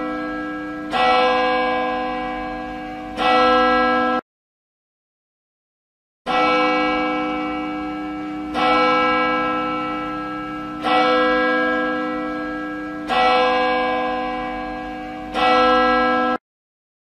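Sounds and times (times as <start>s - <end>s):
church bell tolling: 0.0s - 4.2s, 6.3s - 16.4s.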